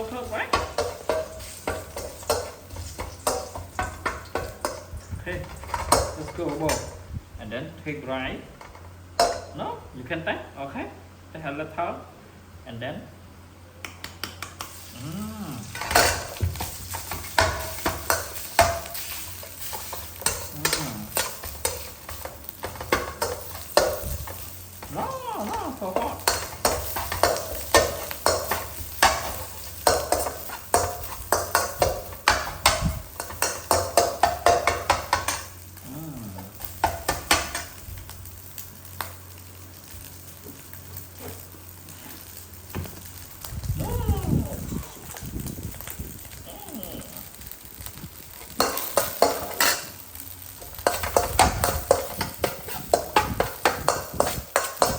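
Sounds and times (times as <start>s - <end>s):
food sizzling in hot oil: 0.0s - 7.2s, 14.4s - 54.9s.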